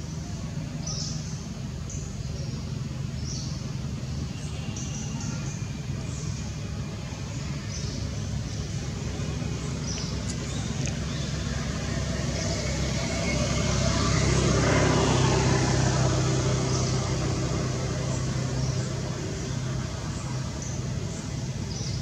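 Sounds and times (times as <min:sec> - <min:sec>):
vehicle engine passing by: 0:00.1 - 0:22.0.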